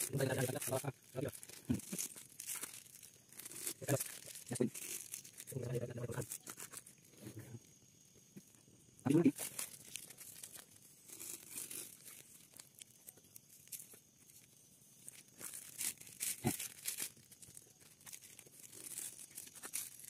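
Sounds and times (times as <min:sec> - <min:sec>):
plastic sachets crinkling: 0:00.0 - 0:07.2, 0:08.4 - 0:20.0.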